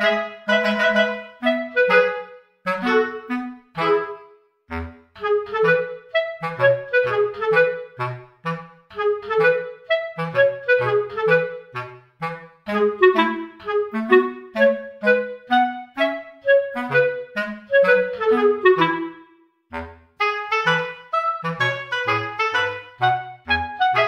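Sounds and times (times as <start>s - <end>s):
bouncy instrumental music: 0.0s - 24.0s.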